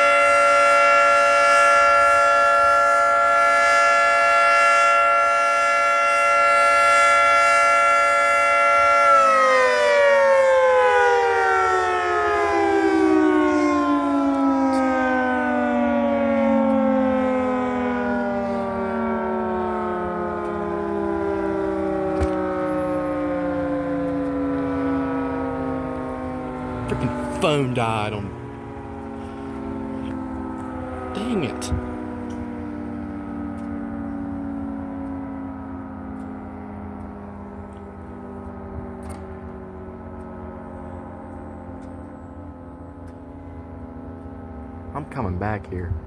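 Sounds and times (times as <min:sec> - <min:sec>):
tornado siren chord: 0:00.0 - 0:46.0.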